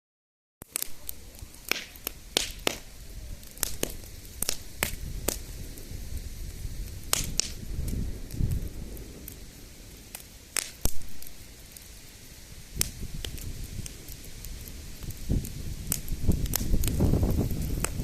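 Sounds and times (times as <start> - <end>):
campfire crackling and popping: 0.6 - 18.0.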